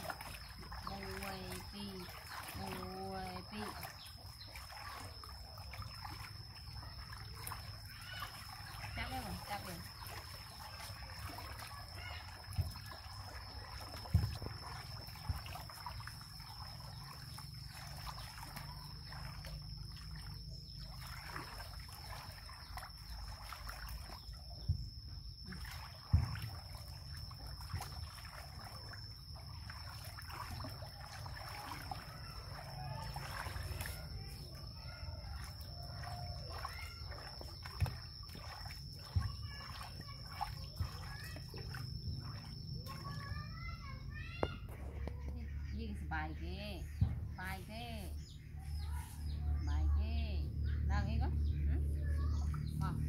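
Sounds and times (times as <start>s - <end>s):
water splashing in a plastic tub: 0.0s - 53.0s.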